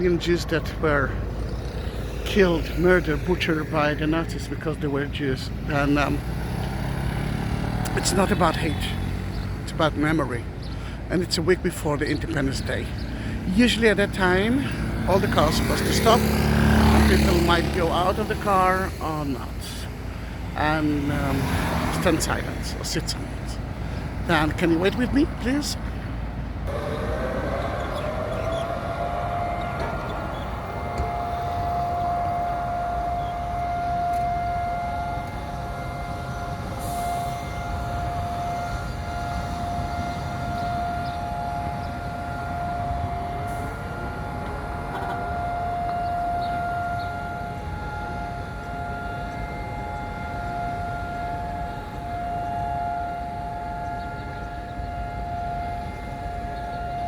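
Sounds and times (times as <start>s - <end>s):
air-raid siren steady tone: 0.0s - 57.0s.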